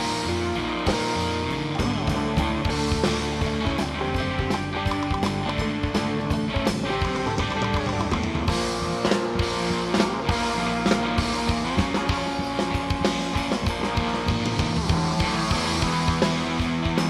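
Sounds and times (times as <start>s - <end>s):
electric guitar: 0.0s - 17.0s
steady drum beat: 0.0s - 17.0s.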